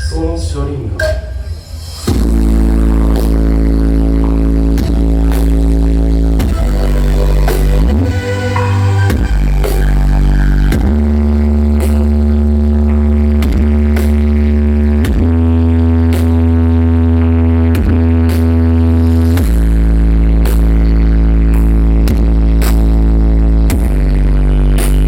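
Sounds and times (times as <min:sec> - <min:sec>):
electronic dance music: 0:00.0 - 0:25.0.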